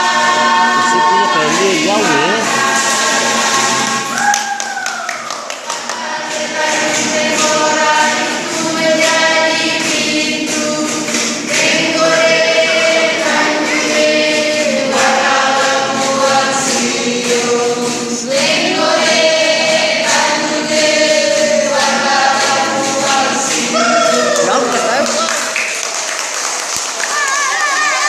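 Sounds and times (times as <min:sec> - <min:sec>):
group singing in chorus: 0:00.0 - 0:04.2, 0:05.3 - 0:25.5.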